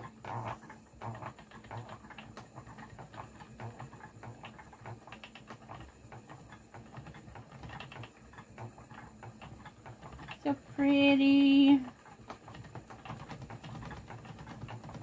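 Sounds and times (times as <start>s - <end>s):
spinning wheel knocking and clicking: 0.0s - 15.0s.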